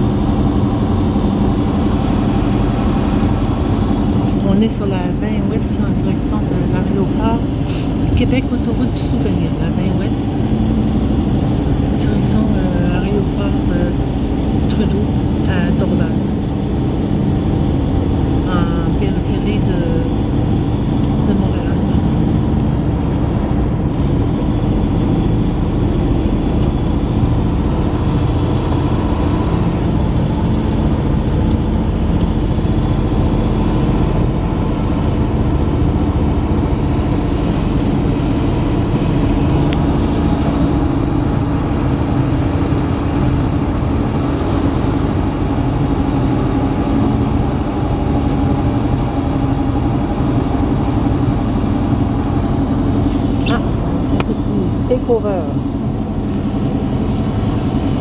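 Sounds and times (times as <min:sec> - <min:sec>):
car cabin road and engine drone: 0:00.0 - 0:58.0.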